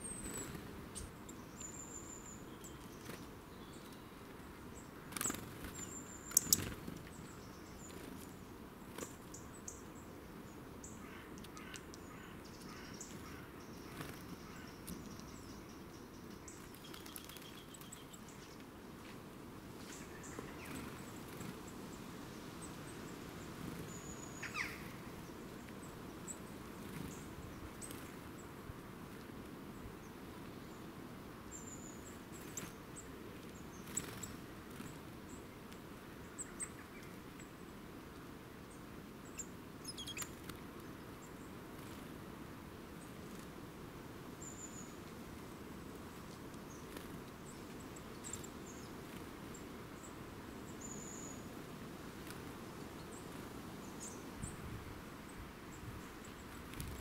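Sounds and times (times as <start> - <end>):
songbirds calling: 0.0 - 19.2, 19.8 - 28.6, 29.7 - 42.1, 44.3 - 57.0
faint outdoor background: 0.0 - 57.0.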